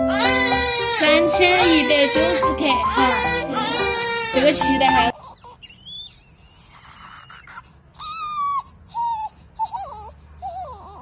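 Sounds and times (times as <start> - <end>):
newborn baby crying: 0.0 - 5.6, 6.6 - 11.0.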